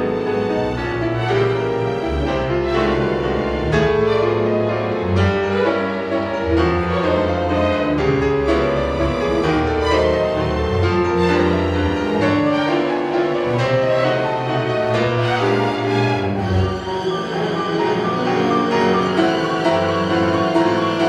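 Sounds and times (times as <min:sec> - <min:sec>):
piano: 0:00.0 - 0:21.0
string orchestra: 0:00.0 - 0:21.0.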